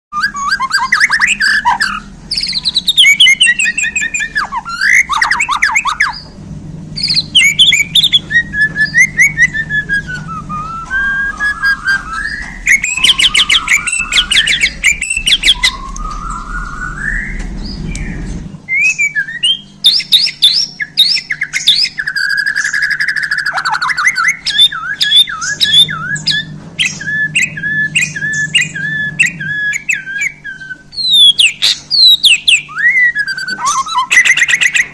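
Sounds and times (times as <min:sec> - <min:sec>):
songbird singing varied whistles: 0:00.2 - 0:06.3, 0:07.0 - 0:34.9.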